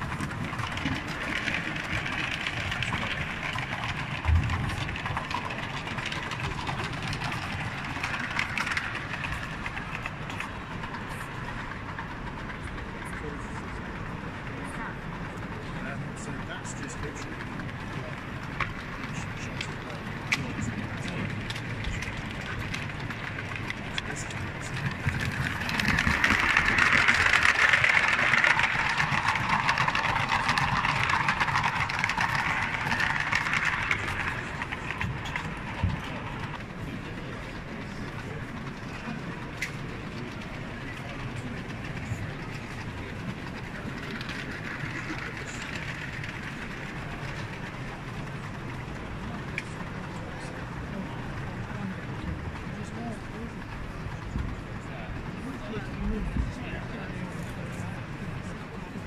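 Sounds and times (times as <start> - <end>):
large hall crowd noise: 0.0 - 59.0
model trains whirring and clicking: 0.0 - 59.0.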